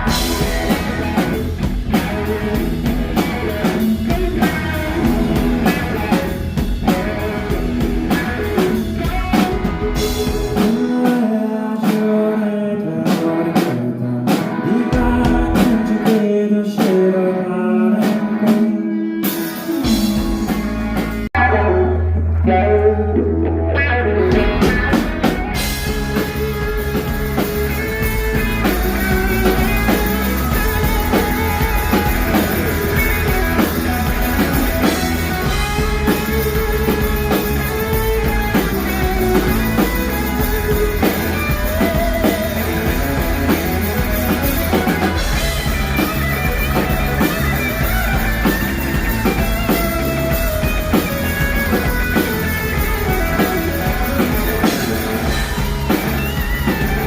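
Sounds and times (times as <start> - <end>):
drum kit: 0.0 - 57.0
electric guitar: 0.0 - 57.0
live rock band: 0.0 - 57.0
person singing: 0.0 - 57.0.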